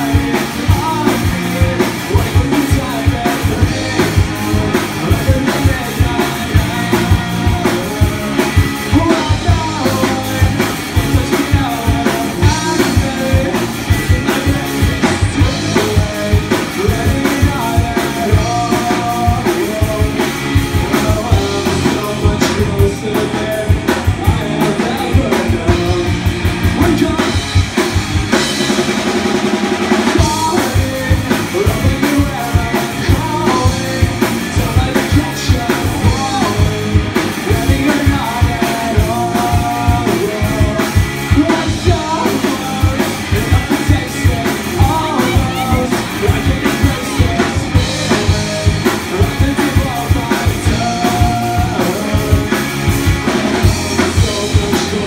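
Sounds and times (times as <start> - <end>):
bass guitar: 0.0 - 55.0
drum kit beat: 0.0 - 55.0
electric guitar: 0.0 - 55.0
man singing lead vocal: 0.0 - 55.0.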